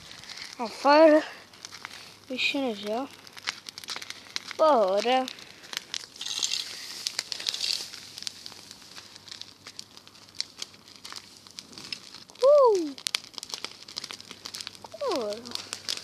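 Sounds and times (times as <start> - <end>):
dry straw rustling: 0.0 - 16.0
fire rushing hiss: 0.0 - 16.0
grass fire crackling and popping: 0.0 - 16.0.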